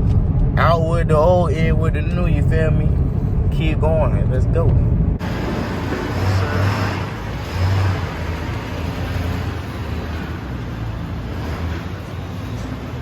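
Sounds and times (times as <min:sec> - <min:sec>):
low engine hum: 0:00.0 - 0:13.0
road and tire noise: 0:00.0 - 0:13.0.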